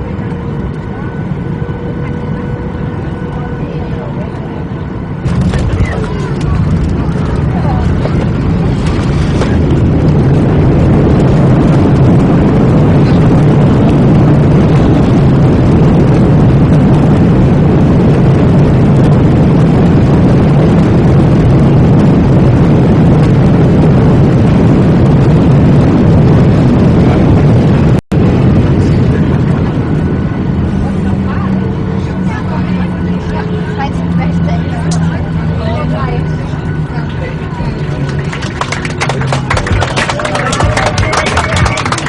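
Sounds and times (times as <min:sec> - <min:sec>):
jet engine and airflow noise: 0:00.0 - 0:42.0.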